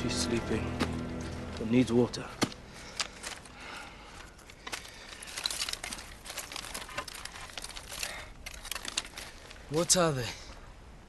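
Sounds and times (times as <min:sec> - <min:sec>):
dry twigs rustling and crackling: 0:00.6 - 0:10.6.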